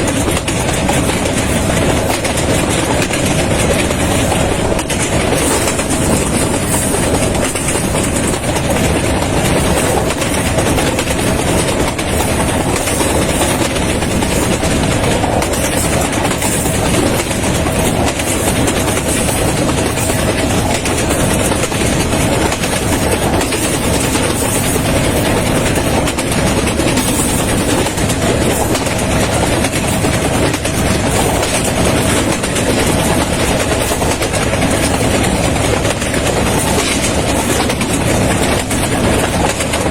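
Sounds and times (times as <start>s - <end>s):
train wheels on track: 0.0s - 39.9s.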